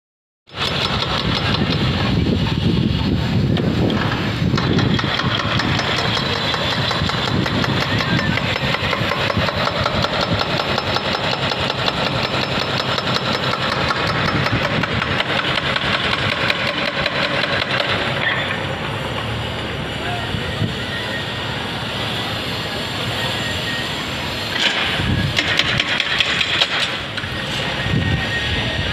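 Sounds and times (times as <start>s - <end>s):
construction machinery diesel engines: 0.5s - 28.9s.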